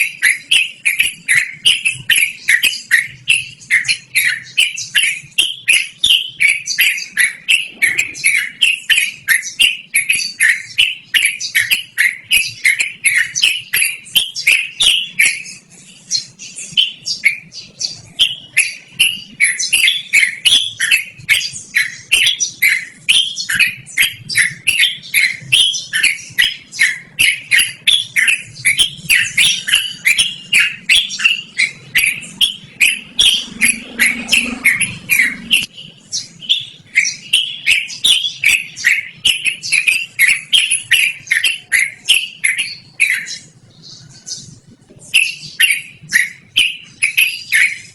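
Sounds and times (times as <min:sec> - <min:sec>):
bulbul singing: 0:00.0 - 0:47.9.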